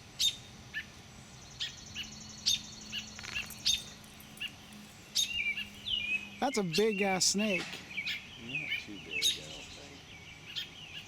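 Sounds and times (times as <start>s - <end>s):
faint rapid bird trill: 0.0s - 11.0s
small birds chirping: 0.0s - 11.0s.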